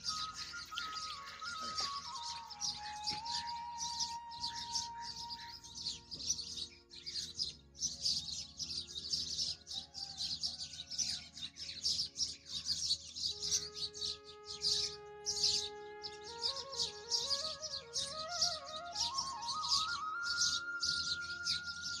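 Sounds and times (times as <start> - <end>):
small birds chirping: 0.0 - 22.0
soft background music: 0.0 - 22.0.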